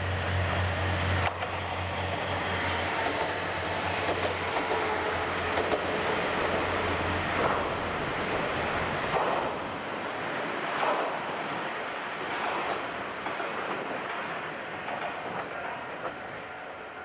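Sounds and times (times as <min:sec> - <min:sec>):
railcar engine hum: 0:00.0 - 0:17.0.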